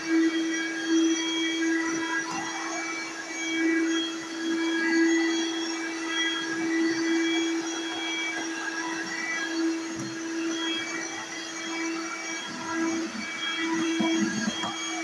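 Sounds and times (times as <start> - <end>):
vacuum cleaner motor hum: 0.0 - 15.0.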